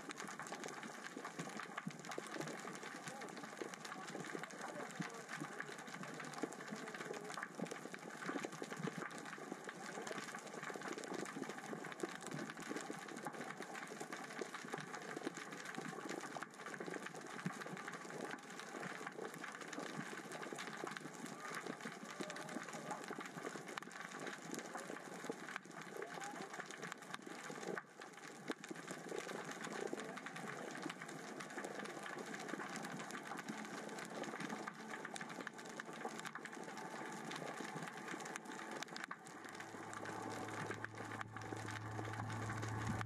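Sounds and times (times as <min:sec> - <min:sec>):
underwater rocks crackling and clicking: 0:00.0 - 0:43.0.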